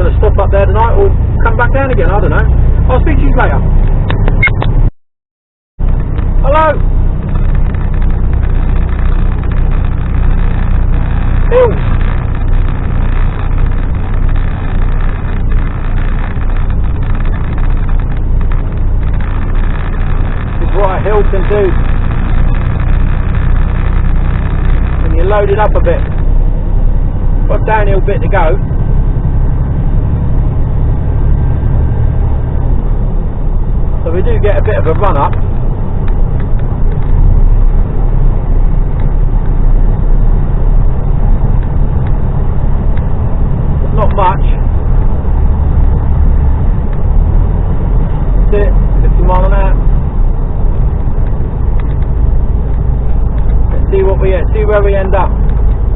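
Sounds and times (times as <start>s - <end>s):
lorry diesel engine pulling uphill: 5.8s - 55.9s.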